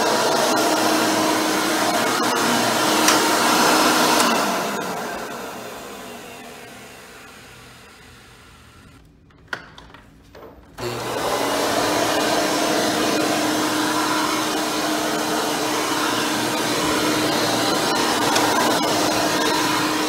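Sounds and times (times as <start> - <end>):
vacuum cleaner running: 0.0 - 9.1, 10.8 - 20.0.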